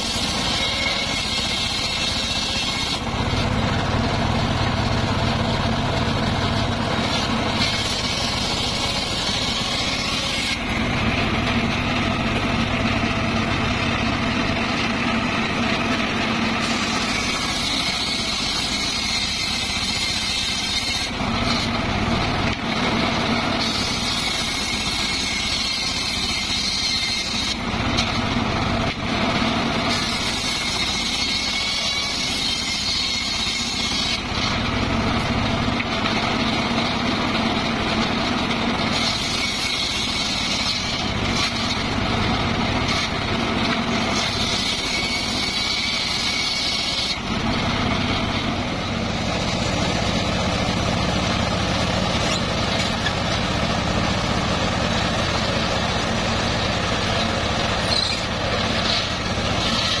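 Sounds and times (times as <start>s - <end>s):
saw blade cutting wood whine: 0.0s - 60.0s
table saw running: 0.0s - 60.0s.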